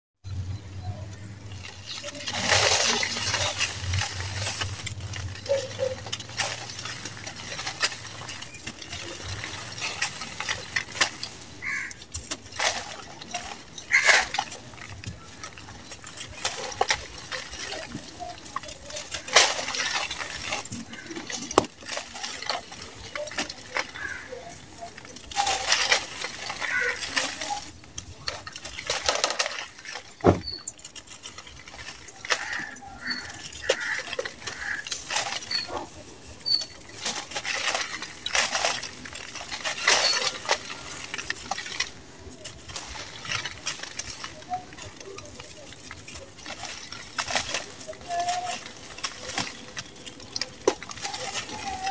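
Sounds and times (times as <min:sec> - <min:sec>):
crunchy crackles of lumps breaking: 0:00.8 - 0:51.9
powder pouring through fingers: 0:01.1 - 0:51.9.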